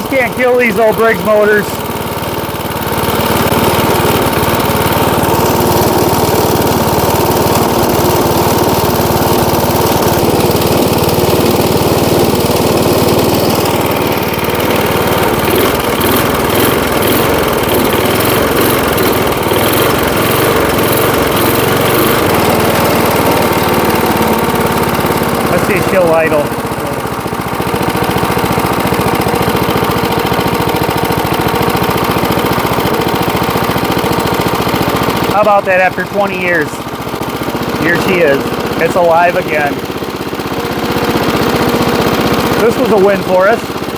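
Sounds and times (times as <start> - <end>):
mower engine idling: 0.0 - 43.9.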